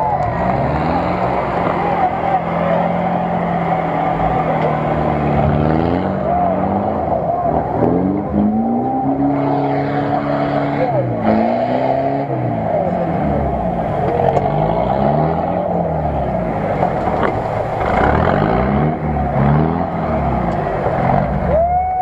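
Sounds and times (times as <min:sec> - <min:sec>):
water and mud churning: 0:00.0 - 0:21.5
off-road vehicle engine revving: 0:00.0 - 0:22.0.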